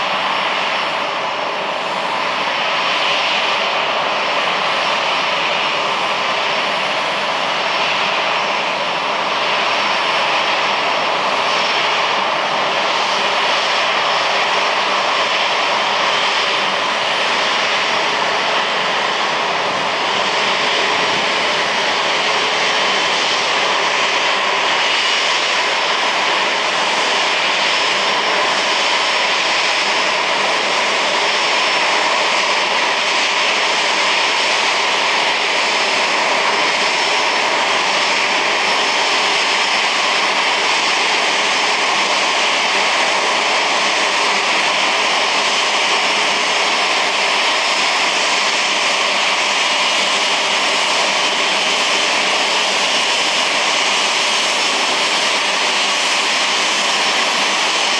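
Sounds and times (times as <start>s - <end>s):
jet engines running: 0.0s - 57.9s.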